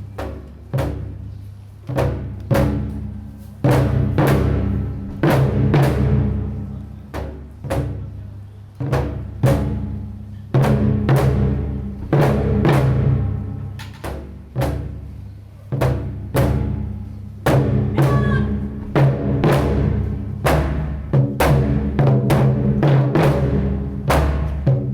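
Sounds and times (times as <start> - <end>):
taiko drums booming: 0.0 - 24.9.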